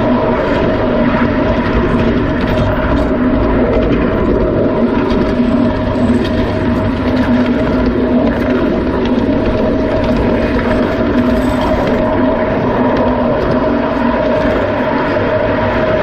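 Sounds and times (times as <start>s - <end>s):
wheels rolling on railway track: 0.0s - 16.0s.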